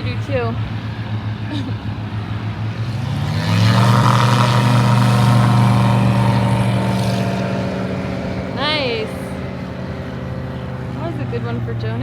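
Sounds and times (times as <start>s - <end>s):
airplane piston engine and propeller: 0.0s - 12.0s.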